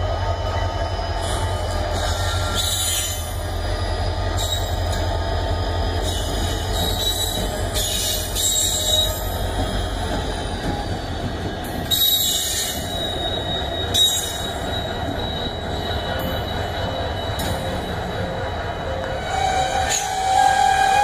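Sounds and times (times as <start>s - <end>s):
diesel locomotive rumble: 0.0s - 21.0s
high wheel squeals: 0.6s - 21.0s.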